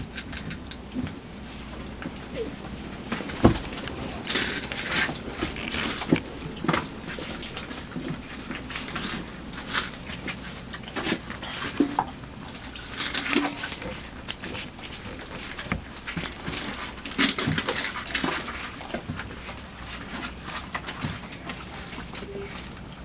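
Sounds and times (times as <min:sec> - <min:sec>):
puppies scratching on cardboard: 0:00.0 - 0:23.0.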